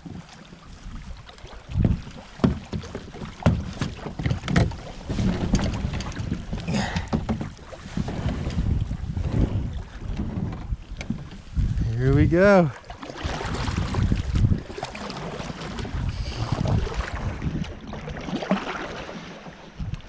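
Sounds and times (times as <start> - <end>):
wind buffeting microphone: 0.0 - 19.0, 19.7 - 20.0
paddle knocking against hull: 0.0 - 20.0
paddle splashing water: 0.0 - 20.0.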